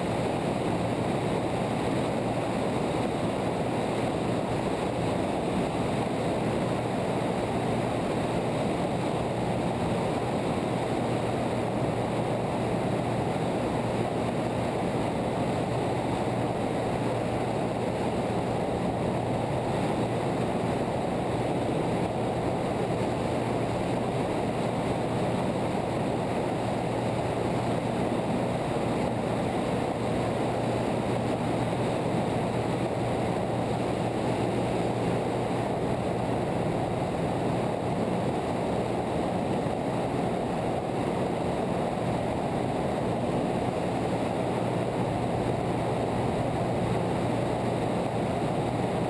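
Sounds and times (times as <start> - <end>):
light aircraft engine drone: 0.0 - 49.0
rushing airflow: 0.0 - 49.0.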